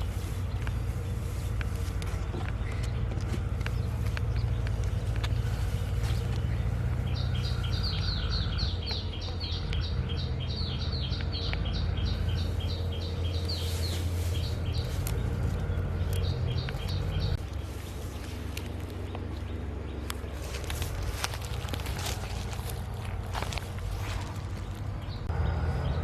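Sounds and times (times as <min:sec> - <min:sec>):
bird chirping rapidly: 0:00.0 - 0:21.7
steady low rumble: 0:00.0 - 0:26.0.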